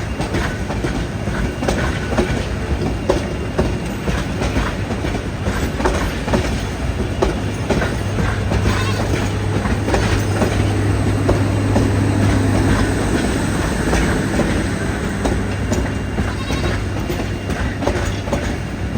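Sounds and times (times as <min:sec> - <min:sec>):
train wheels clicking on rails: 0:00.0 - 0:18.9.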